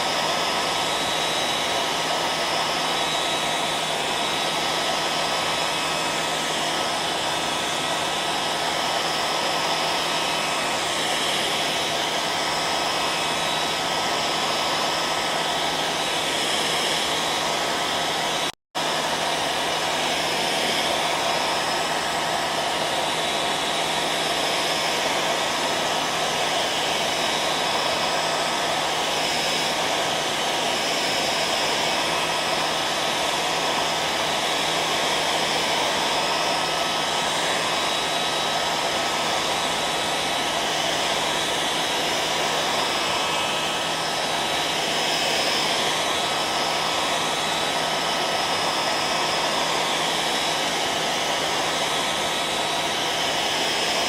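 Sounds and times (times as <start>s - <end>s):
hairdryer running: 0.0s - 54.0s.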